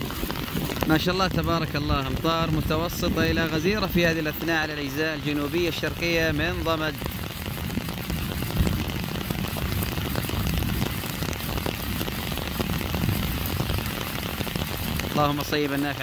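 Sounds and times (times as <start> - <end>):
low rumble: 0.0 - 15.3
rain falling: 0.0 - 16.0.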